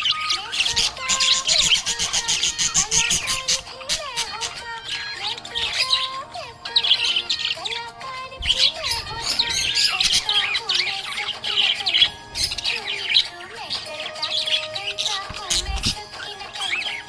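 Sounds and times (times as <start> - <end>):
budgie chirping and warbling: 0.0 - 17.0.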